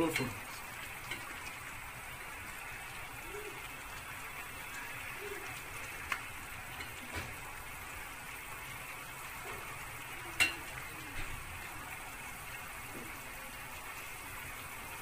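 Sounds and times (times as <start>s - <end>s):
stew simmering hiss: 0.0s - 15.0s.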